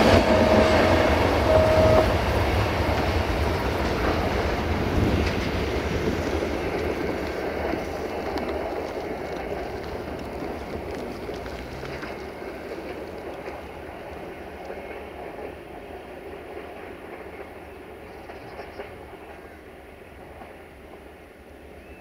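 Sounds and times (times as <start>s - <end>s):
faint clicks of train wheels: 0.0s - 22.0s
train wheels rumbling on rails: 0.0s - 22.0s.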